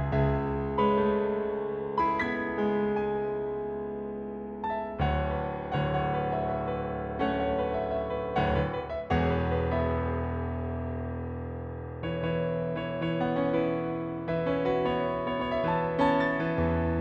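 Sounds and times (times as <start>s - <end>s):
grand piano chords: 0.0s - 17.0s.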